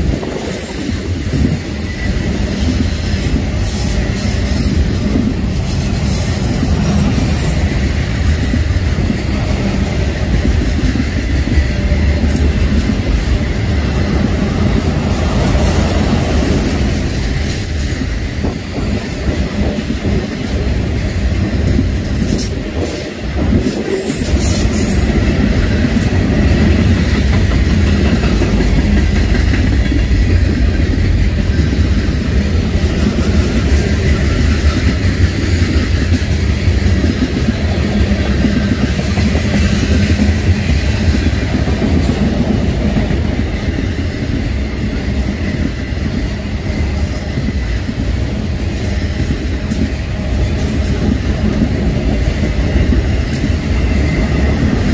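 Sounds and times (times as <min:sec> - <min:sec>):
freight train wheels rumbling on rails: 0:00.0 - 0:54.9.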